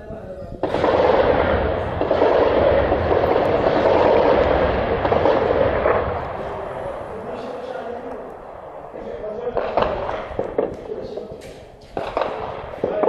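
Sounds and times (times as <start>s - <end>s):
artillery fire rolling roar: 0.6s - 13.0s.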